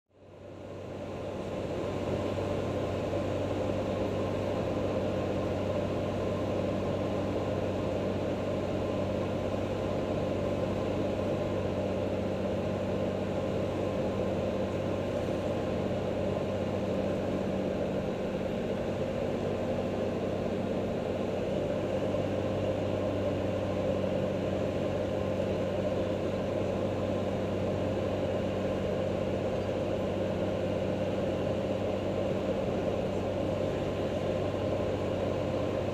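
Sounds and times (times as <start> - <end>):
aircraft engine and propeller droning: 0.3 - 35.9.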